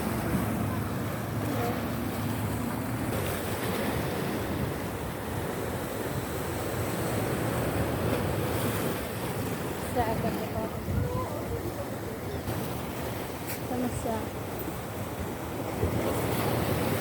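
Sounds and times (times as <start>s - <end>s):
sea waves washing in: 0.0s - 17.0s
wind rumbling on microphone: 0.0s - 17.0s.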